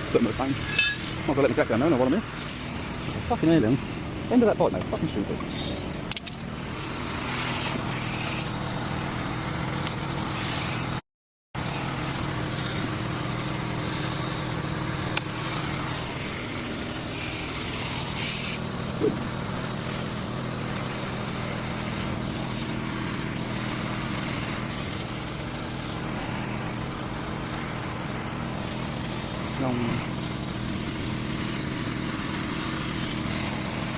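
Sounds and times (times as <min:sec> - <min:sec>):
engine drone: 0:00.0 - 0:11.0, 0:11.6 - 0:33.9
air hissing: 0:00.6 - 0:03.6, 0:05.5 - 0:09.2, 0:10.2 - 0:11.0, 0:11.6 - 0:33.9.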